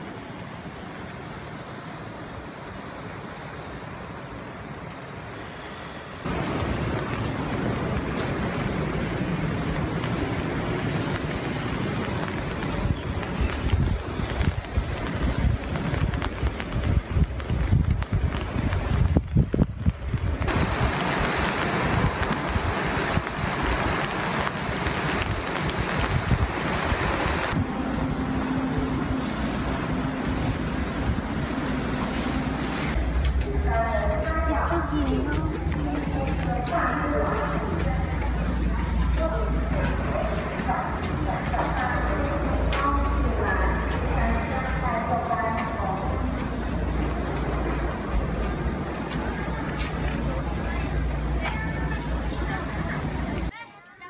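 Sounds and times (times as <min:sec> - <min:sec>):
river water over rapids: 0:00.0 - 0:19.2, 0:20.0 - 0:53.5
outdoor rushing ambience: 0:00.0 - 0:53.5
wind buffeting microphone: 0:06.3 - 0:53.5.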